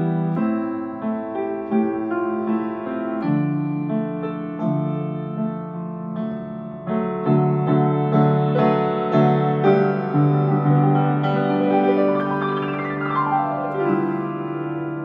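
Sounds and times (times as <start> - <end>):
grand piano chords: 0.0 - 15.0.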